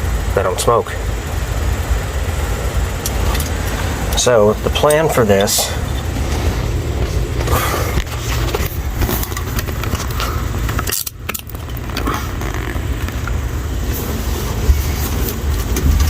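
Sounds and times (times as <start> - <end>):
engine idling with low rumble: 0.0 - 16.0
parts rattling and clicking: 2.9 - 16.0.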